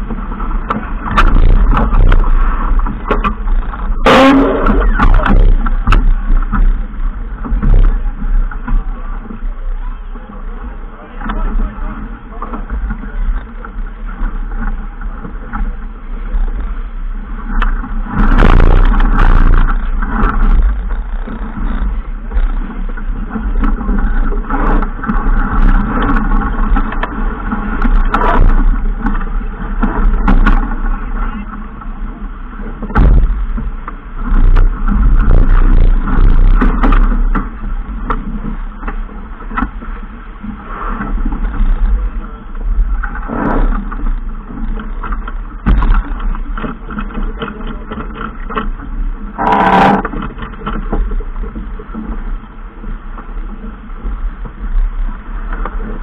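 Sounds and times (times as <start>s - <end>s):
boat rushing through water: 0.0s - 56.0s
wind on microphone: 0.0s - 56.0s.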